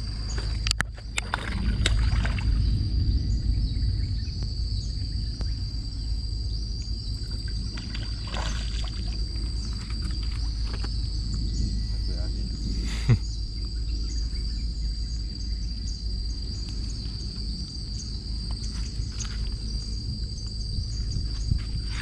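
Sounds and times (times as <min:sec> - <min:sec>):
high insect drone: 0:00.0 - 0:22.0
wind rumble on microphone: 0:00.0 - 0:22.0.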